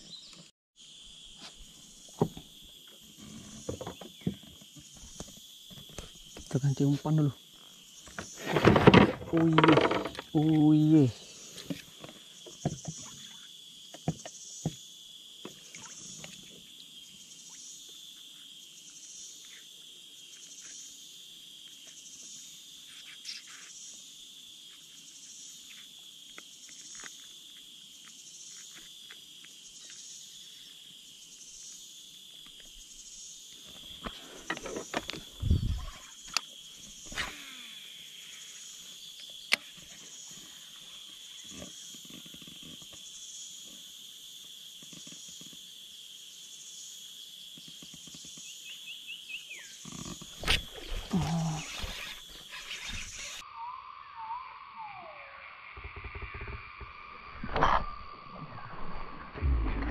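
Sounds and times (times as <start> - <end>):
insect chorus buzzing: 0.0 - 59.9.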